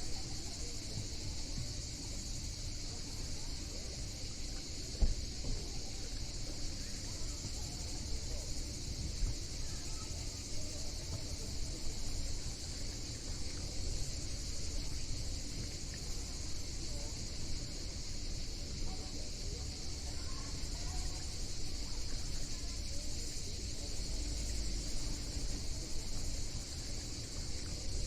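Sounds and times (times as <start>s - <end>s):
cicadas chorus: 0.0s - 28.0s.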